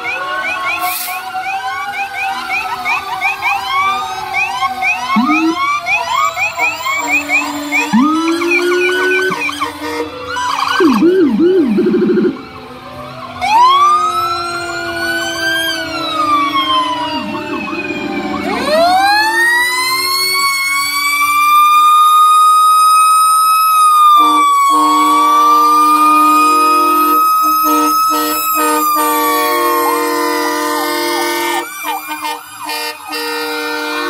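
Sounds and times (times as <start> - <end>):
fast warbling siren: 0.0 - 34.0
siren wailing: 0.0 - 34.0.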